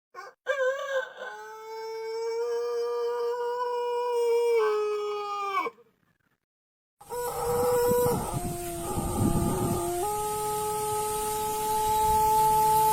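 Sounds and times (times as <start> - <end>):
rooster crowing: 0.2 - 5.7, 7.1 - 12.8.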